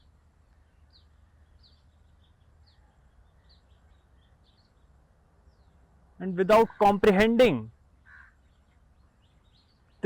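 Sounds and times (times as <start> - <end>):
low steady background hum: 0.0 - 10.0.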